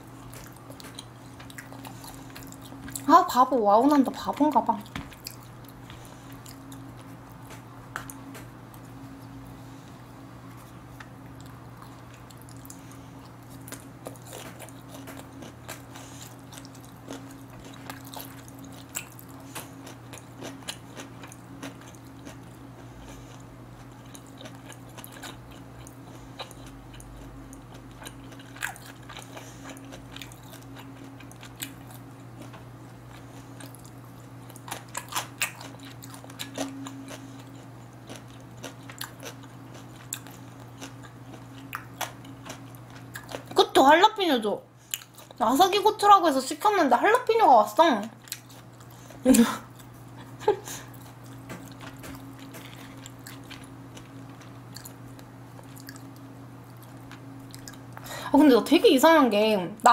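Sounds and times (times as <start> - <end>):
person chewing food: 0.0 - 3.1, 4.7 - 43.6, 44.8 - 45.4, 48.2 - 58.1
steady low hum: 0.0 - 59.9.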